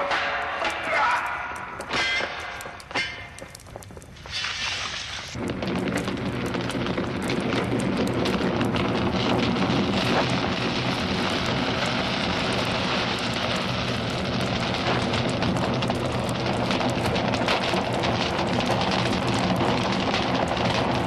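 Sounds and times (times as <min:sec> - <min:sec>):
large fire crackling and rushing: 0:00.9 - 0:21.0.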